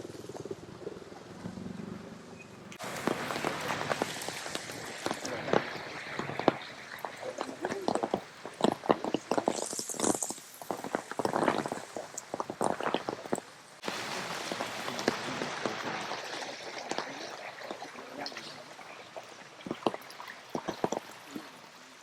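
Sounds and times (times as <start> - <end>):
water dripping: 2.7 - 22.0
rush of falling water: 2.8 - 22.0.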